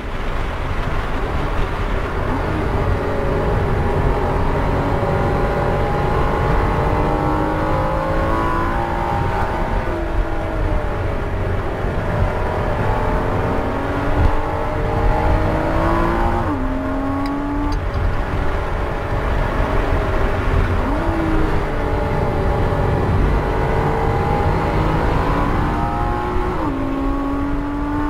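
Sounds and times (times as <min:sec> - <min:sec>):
car engine revving: 0:00.0 - 0:28.0
road and wind noise: 0:00.0 - 0:28.0.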